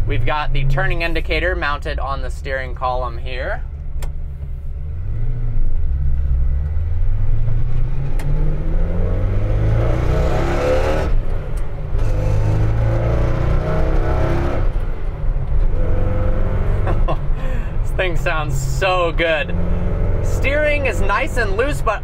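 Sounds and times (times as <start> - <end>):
truck engine accelerating: 0.0 - 22.0.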